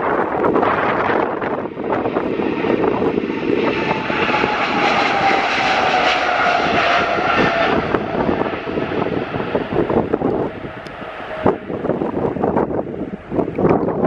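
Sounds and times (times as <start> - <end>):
falling jet whine: 0.0 - 13.5
jet engines at takeoff power: 0.0 - 14.0.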